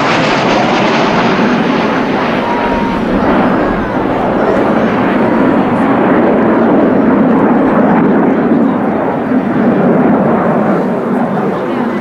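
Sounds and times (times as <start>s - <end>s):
loud jet noise: 0.0s - 10.9s.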